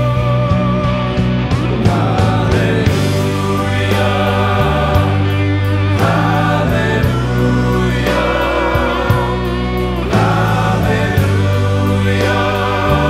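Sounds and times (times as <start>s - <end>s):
singing over sustained chords: 0.0s - 13.0s.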